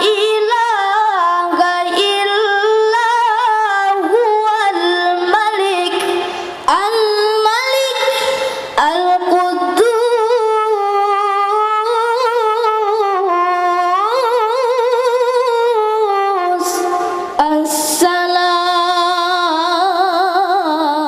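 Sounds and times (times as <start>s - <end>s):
child reciting melodically: 0.0s - 21.0s.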